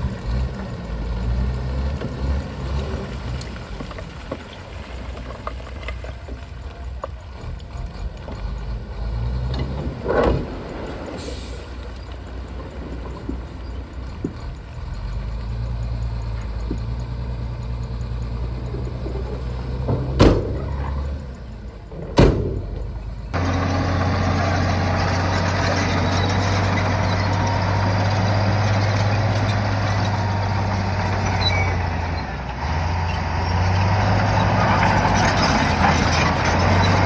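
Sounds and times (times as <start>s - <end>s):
bulldozer diesel engine droning: 0.0s - 37.0s.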